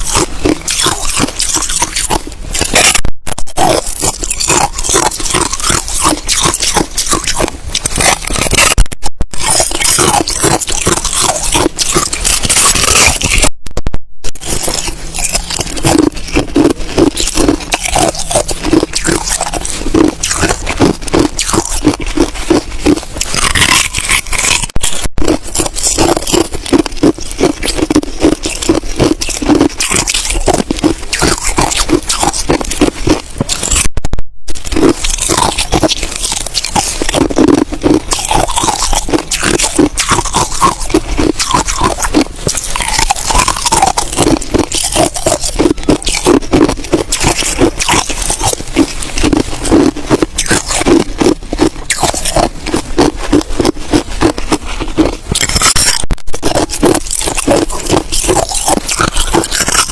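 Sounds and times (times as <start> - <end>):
ice crunching while chewed: 0.0 - 13.6, 14.3 - 59.9.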